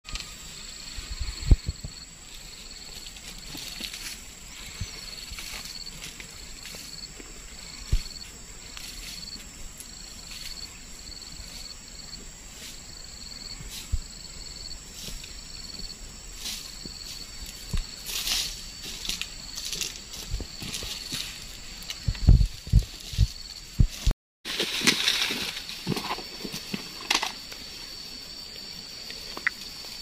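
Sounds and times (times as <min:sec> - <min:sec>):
insects trilling: 0:00.1 - 0:30.0.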